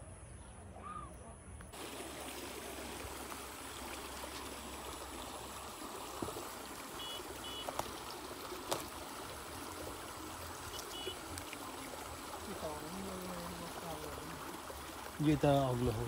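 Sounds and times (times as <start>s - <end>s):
stream water running: 1.7s - 16.0s.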